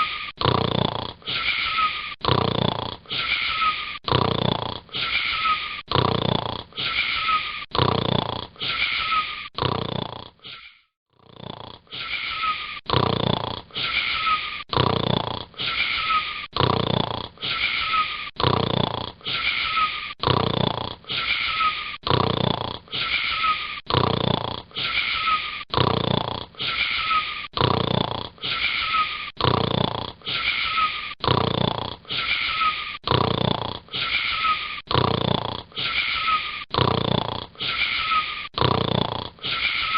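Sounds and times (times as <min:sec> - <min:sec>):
boy snoring: 0:00.0 - 0:39.9.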